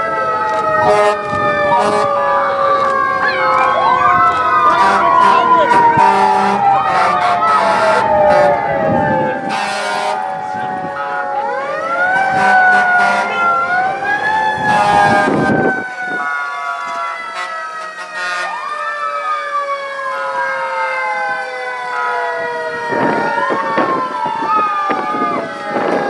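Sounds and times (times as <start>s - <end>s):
fire truck sirens wailing: 0.0s - 26.0s.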